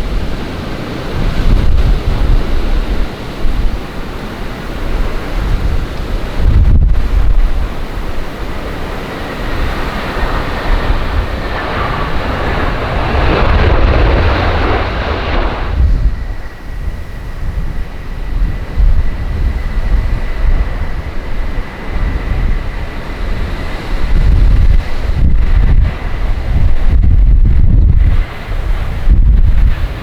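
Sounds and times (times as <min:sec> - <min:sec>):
jet engine rushing: 0:00.0 - 0:30.0
wind buffeting microphone: 0:00.0 - 0:30.0.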